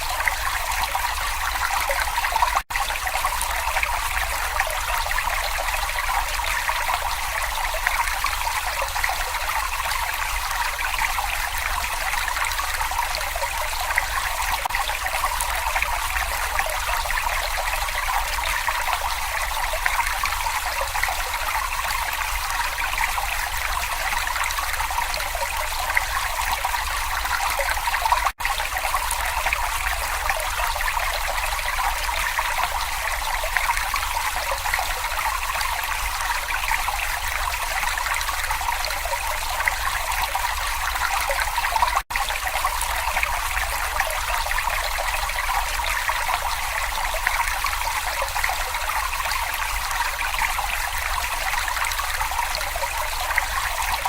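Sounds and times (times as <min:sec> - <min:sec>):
brook trickling over stones: 0:00.0 - 0:54.0.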